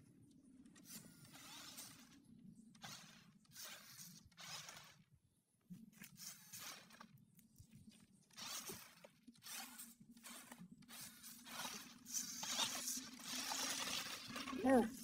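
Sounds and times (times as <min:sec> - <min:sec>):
rc car motor whirring: 0:00.8 - 0:05.1, 0:06.1 - 0:07.1, 0:08.3 - 0:15.0.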